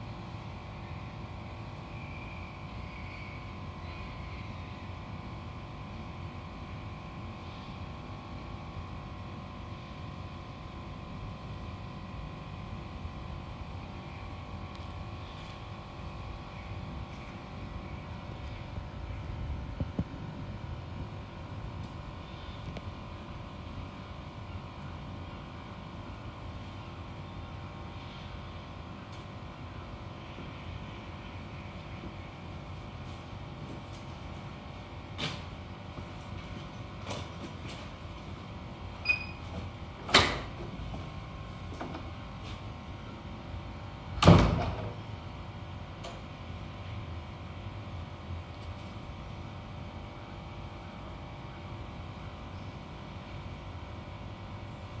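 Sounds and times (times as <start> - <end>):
mechanical hum with low rumble: 0.0 - 55.0.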